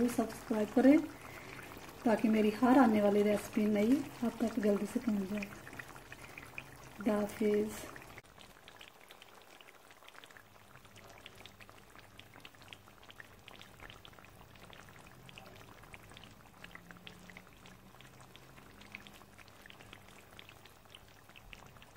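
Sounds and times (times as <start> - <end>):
gravy sizzling in a pan: 0.0 - 21.9.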